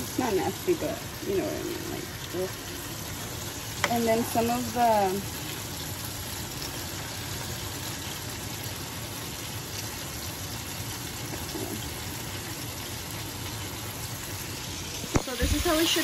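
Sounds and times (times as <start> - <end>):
chicken frying in oil: 0.0 - 16.0.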